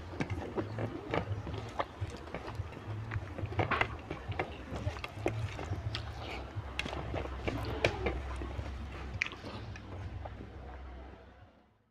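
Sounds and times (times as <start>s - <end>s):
mouth clicks: 0.0s - 10.4s
wet chewing: 0.0s - 10.5s.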